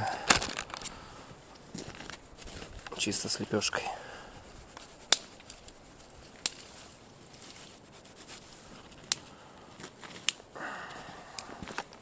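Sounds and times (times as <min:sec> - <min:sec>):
campfire wood popping: 0:00.0 - 0:12.0
rustle of handling: 0:00.0 - 0:12.0.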